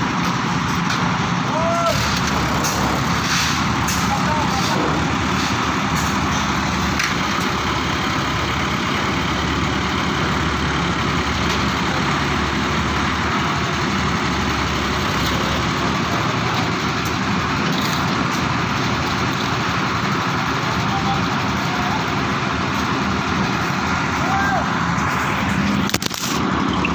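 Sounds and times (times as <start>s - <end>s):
engine running with hiss: 0.0s - 26.9s.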